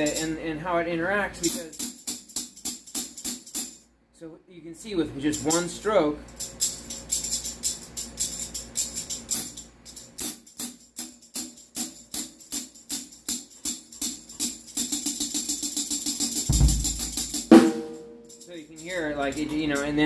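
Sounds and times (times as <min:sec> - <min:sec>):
tambourine jingles jangling: 0:00.0 - 0:00.4, 0:01.4 - 0:03.8, 0:05.3 - 0:20.0.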